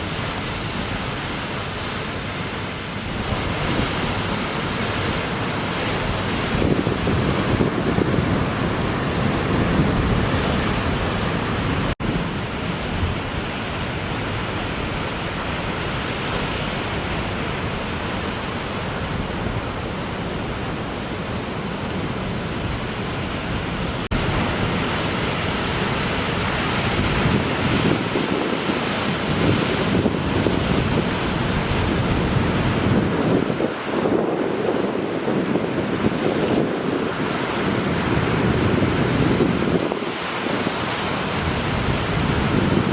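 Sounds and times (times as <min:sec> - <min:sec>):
ocean surf breaking: 0:00.0 - 0:42.9
wind buffeting microphone: 0:03.0 - 0:42.9.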